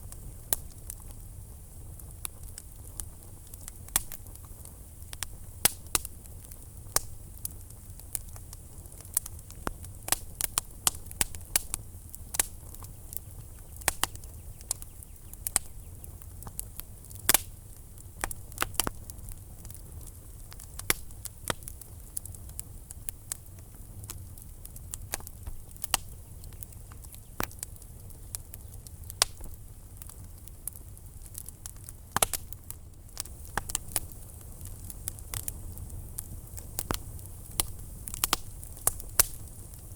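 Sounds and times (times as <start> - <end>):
fire low rumble: 0.0 - 39.9
wood fire crackling and popping: 0.0 - 39.9.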